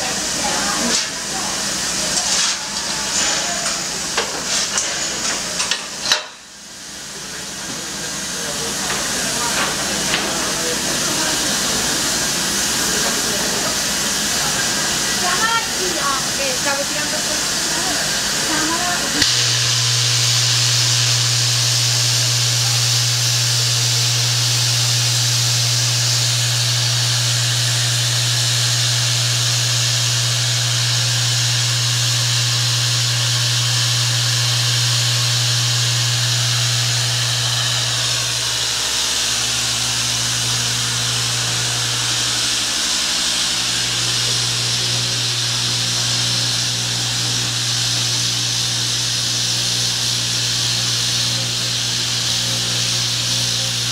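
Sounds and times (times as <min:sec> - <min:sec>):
steam hissing: 0:00.0 - 0:53.9.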